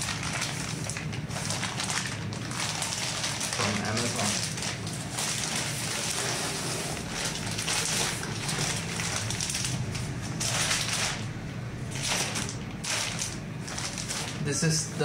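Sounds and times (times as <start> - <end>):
plastic packaging crinkling: 0.0 - 14.7.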